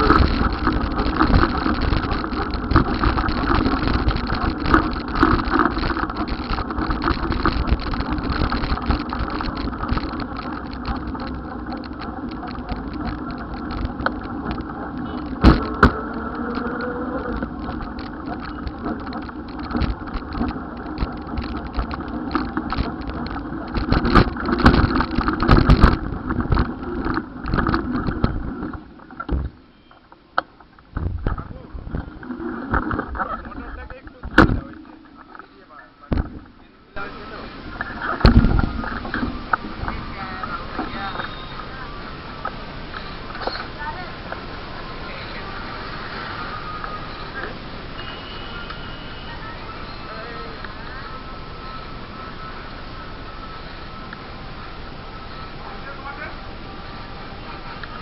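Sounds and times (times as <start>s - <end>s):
vehicle engines running: 0.0s - 58.0s.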